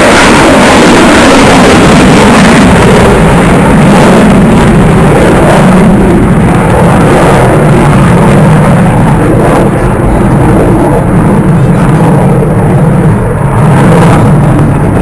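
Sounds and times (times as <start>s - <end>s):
aircraft engine roaring overhead: 0.0s - 15.0s.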